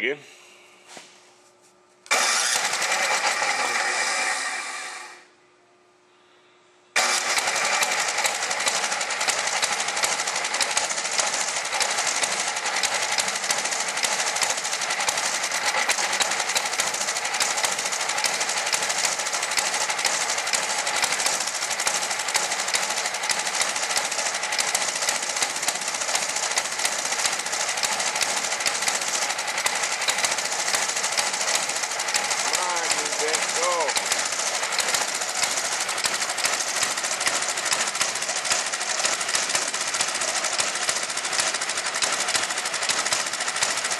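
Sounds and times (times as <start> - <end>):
snowblower engine clattering: 2.1 - 5.0, 7.0 - 43.9.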